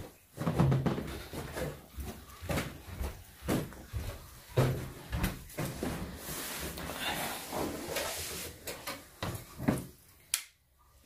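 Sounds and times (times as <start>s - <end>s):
footsteps down stairs: 0.0s - 10.0s.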